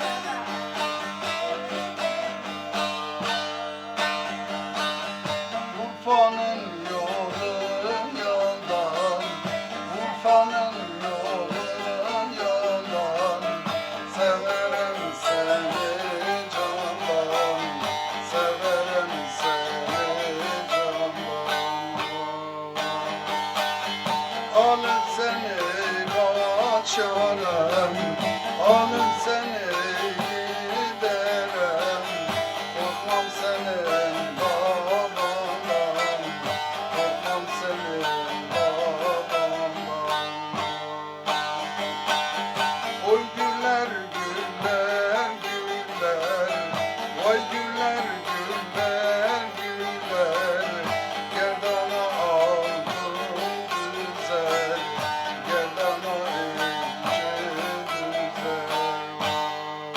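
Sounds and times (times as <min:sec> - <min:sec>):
folk music accompaniment: 0:00.0 - 0:59.9
plucked string instrument melody: 0:00.0 - 0:59.9.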